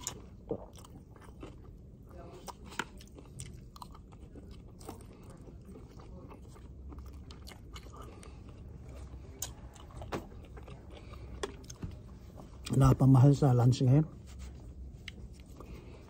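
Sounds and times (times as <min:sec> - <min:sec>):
person chewing food: 0:00.0 - 0:13.0, 0:14.4 - 0:16.0
low room hum: 0:00.0 - 0:16.0.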